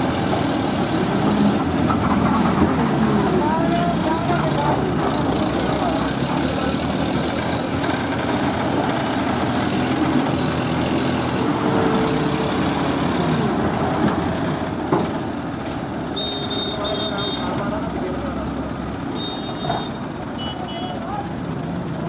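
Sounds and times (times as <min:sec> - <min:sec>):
heavy diesel engines straining: 0:00.0 - 0:22.0.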